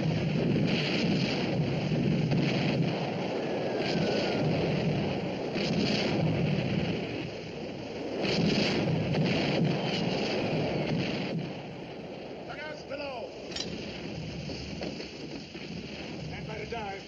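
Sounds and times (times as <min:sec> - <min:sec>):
choppy sea: 0:00.0 - 0:14.4
wind rushing: 0:00.0 - 0:14.5
low rumble of ship engines: 0:00.0 - 0:17.0.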